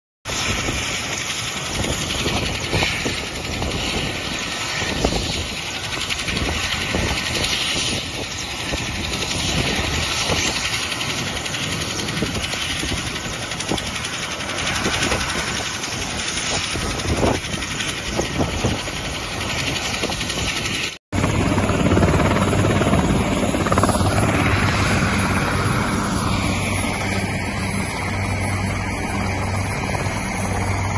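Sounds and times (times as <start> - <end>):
helicopter rotor and turbine: 0.3 - 30.9.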